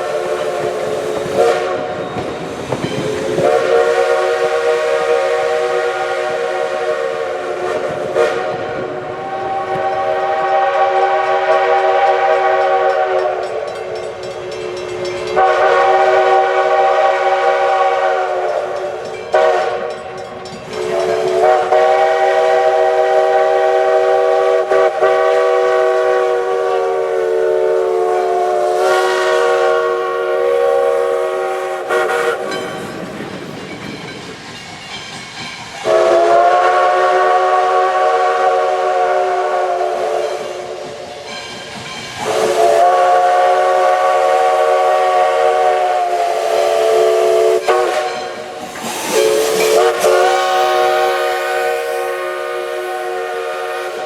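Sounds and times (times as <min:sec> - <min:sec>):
steam whistle chord blasts: 0:00.0 - 0:02.1, 0:03.0 - 0:19.9, 0:20.7 - 0:33.0, 0:35.8 - 0:40.9, 0:42.2 - 0:54.0.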